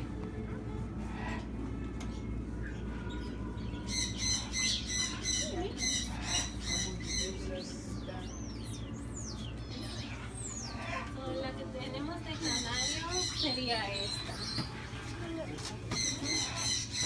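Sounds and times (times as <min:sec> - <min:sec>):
birds squawking: 0:00.8 - 0:17.0.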